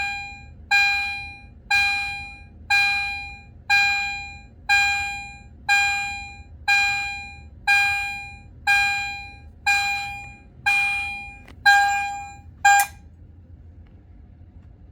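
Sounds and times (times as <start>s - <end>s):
fire alarm chime: 0.0s - 13.0s.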